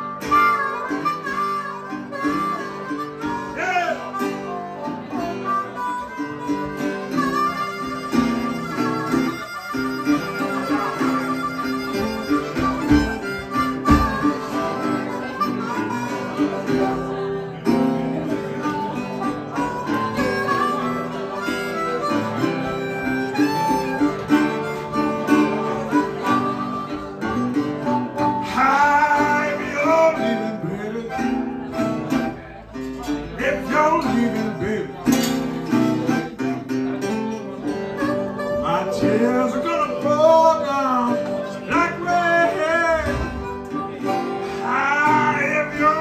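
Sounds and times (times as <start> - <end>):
acoustic guitar accompaniment: 0.0 - 46.0
wavering melodic lead: 0.0 - 46.0.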